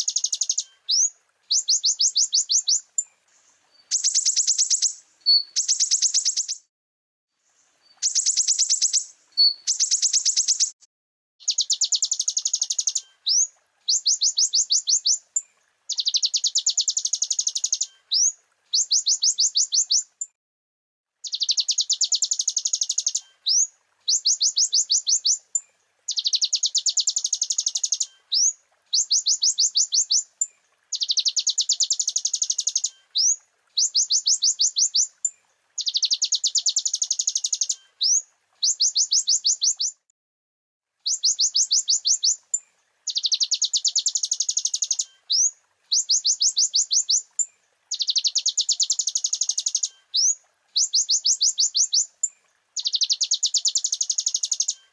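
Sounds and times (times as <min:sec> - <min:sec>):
songbird trilling: 0:00.0 - 0:03.0, 0:03.8 - 0:06.7, 0:08.0 - 0:10.8, 0:11.4 - 0:15.2, 0:15.9 - 0:20.2, 0:21.2 - 0:40.0, 0:41.0 - 0:54.9.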